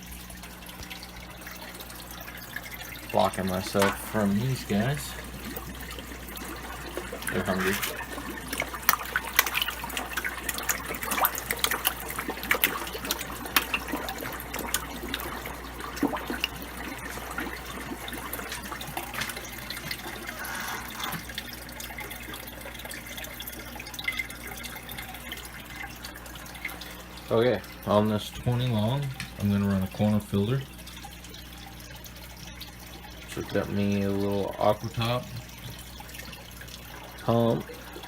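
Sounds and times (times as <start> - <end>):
steady low hum: 0.0 - 38.0
water drips and plinks: 0.0 - 38.0
water trickling and splashing: 0.0 - 38.0.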